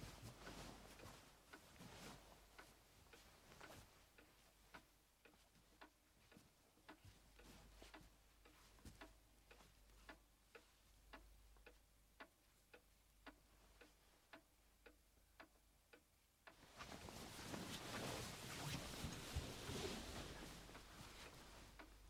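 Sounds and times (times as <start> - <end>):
clock ticking: 0.0 - 22.0.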